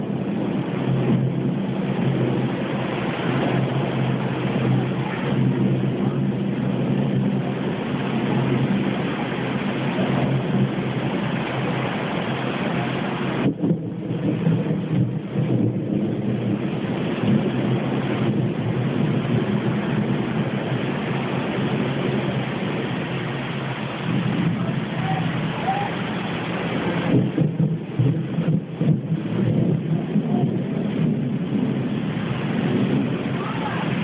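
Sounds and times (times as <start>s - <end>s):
low rumble of thunder: 0.0s - 34.0s
steady rain: 0.0s - 34.0s.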